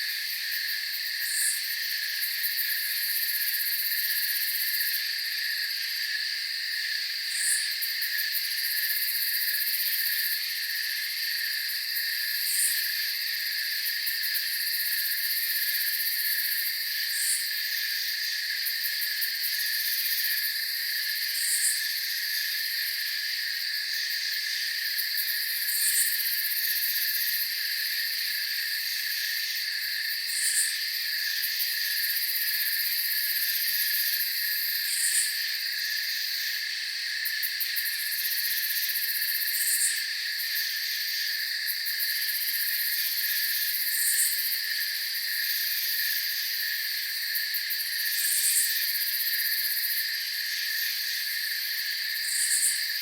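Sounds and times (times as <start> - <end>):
crickets and night insects trilling: 0.0 - 53.0.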